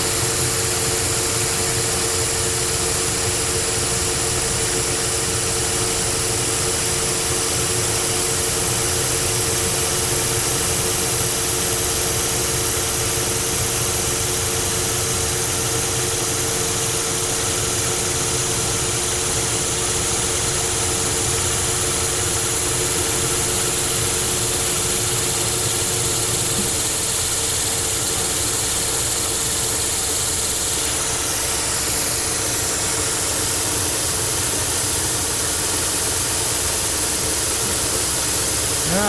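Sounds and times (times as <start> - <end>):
lathe running with gear whine: 0.0 - 39.0
steady hum: 0.0 - 39.0.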